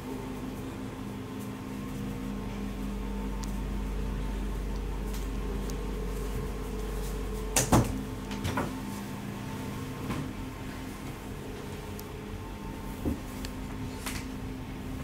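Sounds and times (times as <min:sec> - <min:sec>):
steady electrical hum: 0:00.0 - 0:15.0
low rumble: 0:01.6 - 0:14.7.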